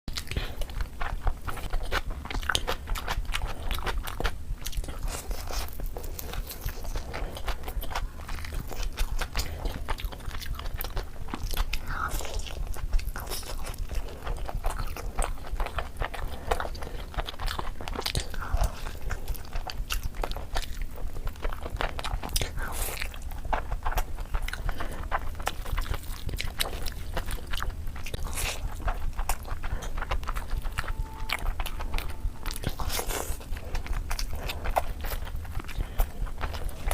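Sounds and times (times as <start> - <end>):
person chewing crunchy food: 0.1 - 36.9.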